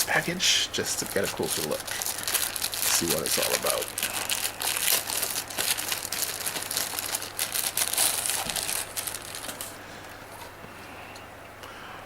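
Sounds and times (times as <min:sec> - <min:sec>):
packaging crinkling and rustling: 0:00.8 - 0:10.6.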